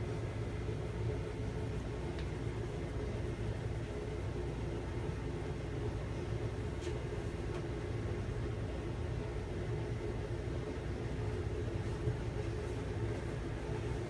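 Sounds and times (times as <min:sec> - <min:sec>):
exhaust fan humming: 0:00.0 - 0:14.0.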